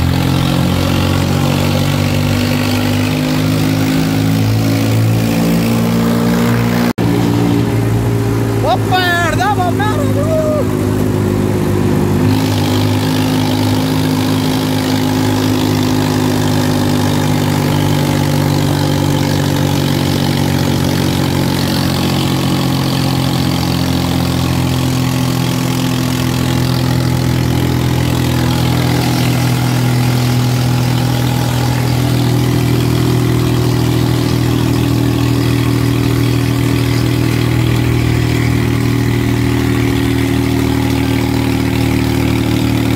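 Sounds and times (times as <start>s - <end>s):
tractor diesel engine running: 0.0s - 5.8s, 7.0s - 42.9s
road and wind noise: 0.0s - 42.9s.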